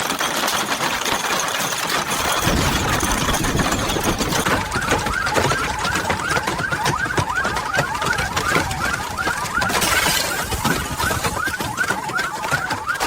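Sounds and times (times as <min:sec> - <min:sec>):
hailstones clattering on hard surface: 0:00.0 - 0:13.0
car alarm chirping warble: 0:02.2 - 0:13.0.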